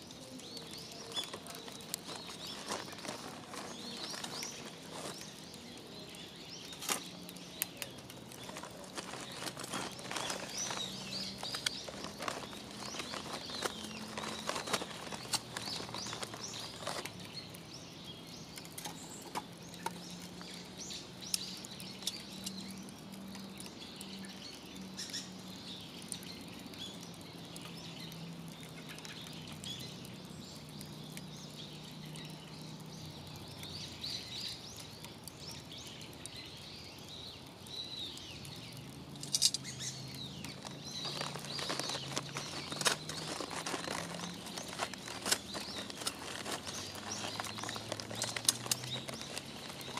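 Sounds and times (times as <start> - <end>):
birds chirping: 0.0 - 49.9
wood fire crackling and popping: 0.0 - 49.9.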